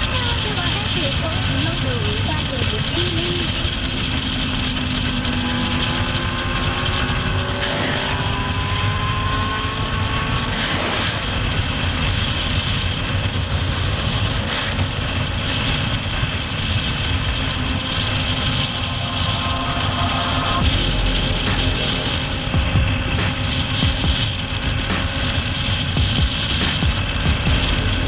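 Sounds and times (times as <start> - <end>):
heavy wind rush: 0.0 - 28.0
motorcycle engine running: 0.0 - 28.0.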